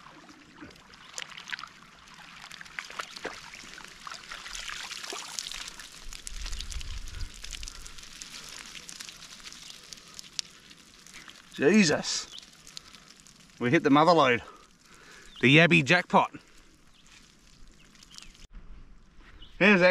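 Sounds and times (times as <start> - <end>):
water splashing and dripping: 0.0 - 15.4, 16.2 - 18.5.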